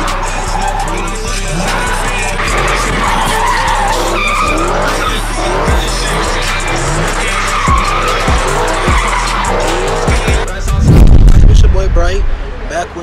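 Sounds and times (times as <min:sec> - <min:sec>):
car tires squealing: 0:00.0 - 0:10.8
music with heavy bass beat: 0:00.0 - 0:12.2.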